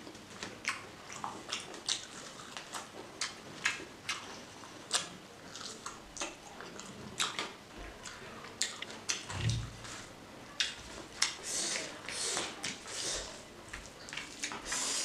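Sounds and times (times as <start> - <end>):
wet chewing smacks and squelches: 0.1 - 15.0.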